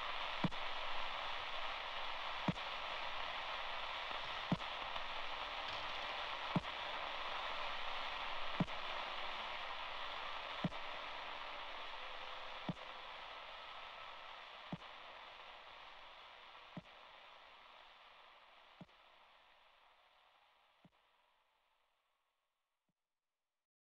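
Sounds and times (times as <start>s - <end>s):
static hiss: 0.0s - 20.8s.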